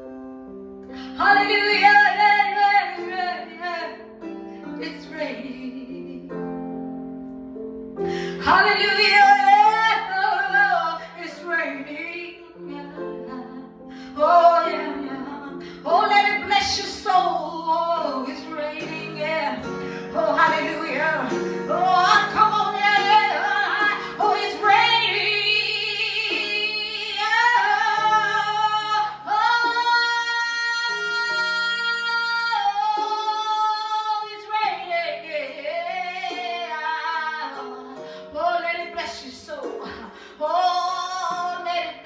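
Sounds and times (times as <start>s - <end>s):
instrumental chords: 0.0s - 42.0s
woman singing: 0.9s - 4.0s, 4.7s - 6.5s, 8.2s - 42.0s.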